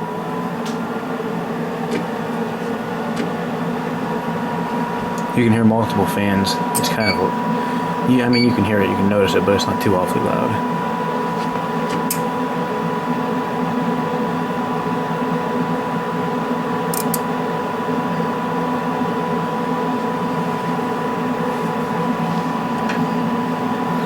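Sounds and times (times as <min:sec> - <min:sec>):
cooling fans humming: 0:00.0 - 0:24.0.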